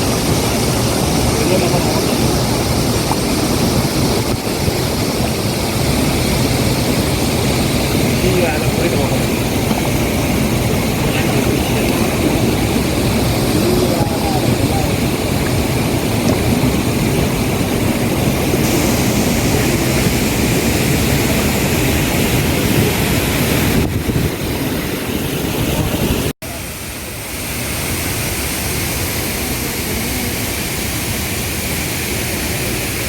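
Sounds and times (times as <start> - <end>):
waterfall roaring: 0.0 - 33.0.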